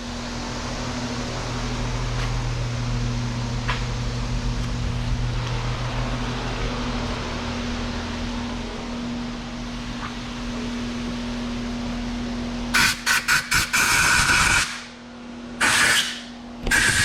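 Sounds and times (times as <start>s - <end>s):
mechanical hum with hiss: 0.0s - 17.0s.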